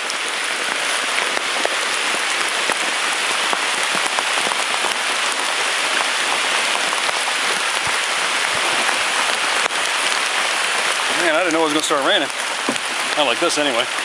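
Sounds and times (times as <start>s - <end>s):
heavy rain on river: 0.0s - 14.0s.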